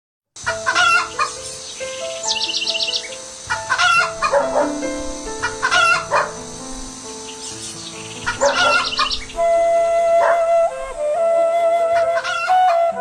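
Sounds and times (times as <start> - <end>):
domestic fowl calling: 0.4 - 7.0, 8.2 - 11.2, 12.0 - 12.8
high bird chirps: 0.4 - 11.2
slow instrumental music: 0.4 - 13.0.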